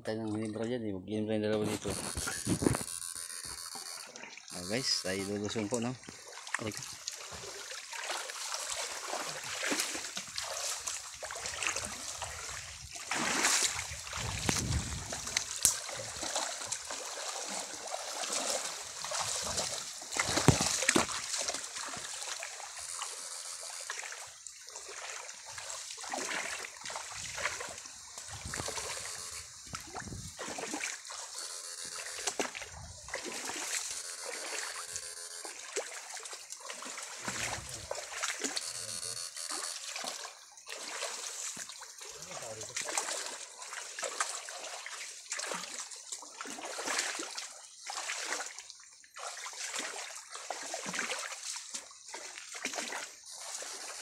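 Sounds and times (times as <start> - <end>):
water splashing from wading: 1.6 - 54.0.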